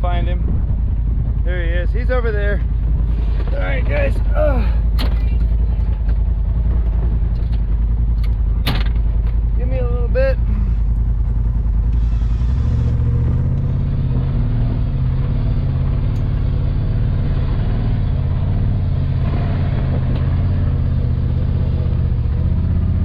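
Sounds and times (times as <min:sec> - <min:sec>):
off-road vehicle engine under load: 0:00.0 - 0:23.0.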